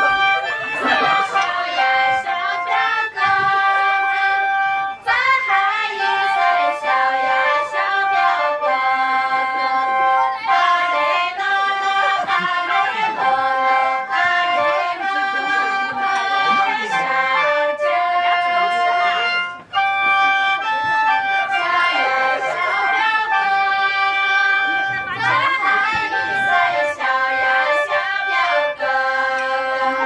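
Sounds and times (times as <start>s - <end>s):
reed instruments playing melody: 0.0s - 30.0s.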